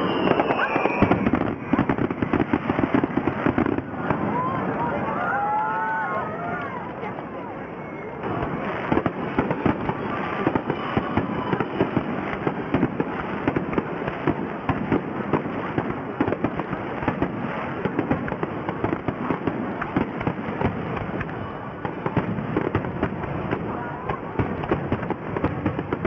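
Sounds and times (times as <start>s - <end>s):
fireworks bursting with bangs: 0.0s - 5.2s, 8.2s - 26.0s
fireworks crackle: 0.0s - 5.9s, 8.1s - 26.0s.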